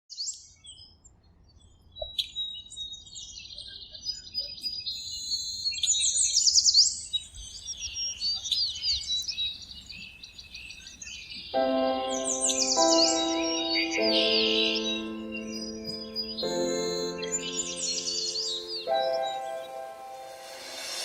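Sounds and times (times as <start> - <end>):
birds chirping and trilling: 1.6 - 21.0.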